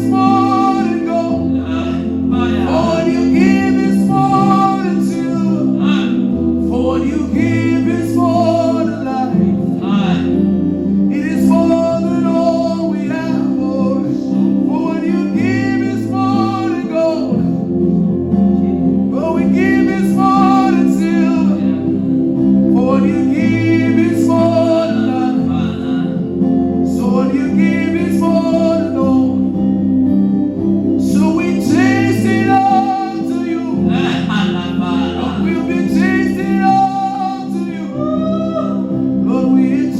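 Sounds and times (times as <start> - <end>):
bass: 0.0 - 39.9
person singing worship song: 0.0 - 39.9
sustained chords: 0.0 - 39.9.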